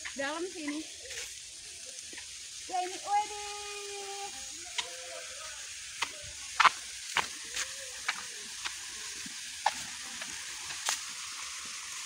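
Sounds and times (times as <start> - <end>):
water running in a channel: 0.0 - 12.0.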